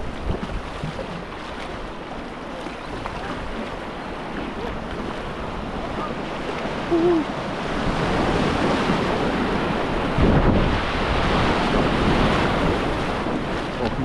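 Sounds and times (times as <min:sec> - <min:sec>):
rushing whitewater: 0:00.0 - 0:14.0.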